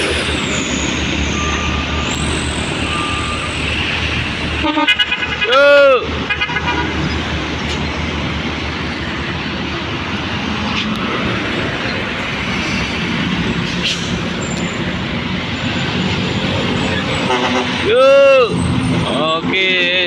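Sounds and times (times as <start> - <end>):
heavy truck passing: 0.0 - 20.0.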